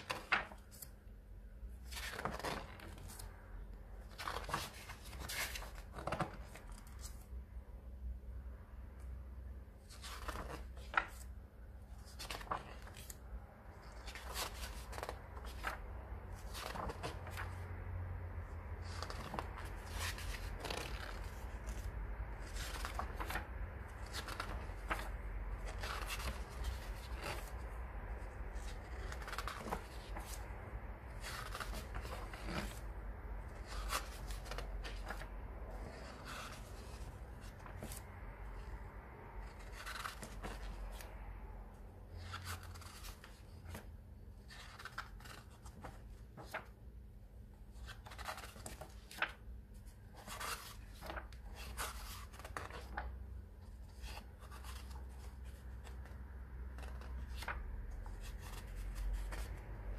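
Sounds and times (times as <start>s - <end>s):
book pages turning: 0.0s - 7.5s, 9.7s - 38.8s, 39.4s - 41.3s, 42.0s - 46.8s, 47.7s - 59.9s
low steady hum: 0.0s - 59.9s.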